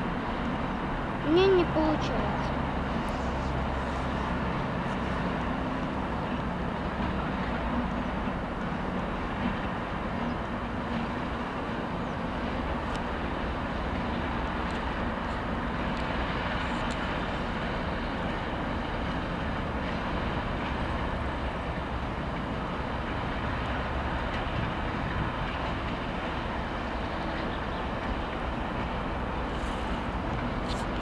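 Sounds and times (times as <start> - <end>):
locomotive diesel engine running: 0.0 - 31.0
train wheels rumbling on rails: 0.0 - 31.0.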